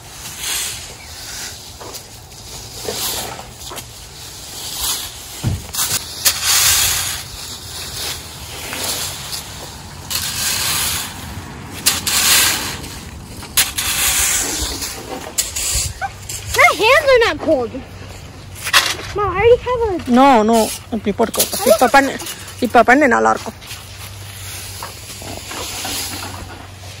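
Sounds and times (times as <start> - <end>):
dry leaves rustling and crunching: 0.0 - 27.0.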